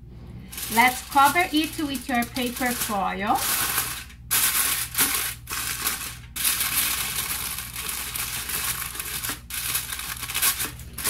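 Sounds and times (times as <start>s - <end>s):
aluminium foil crinkling: 0.4s - 11.0s.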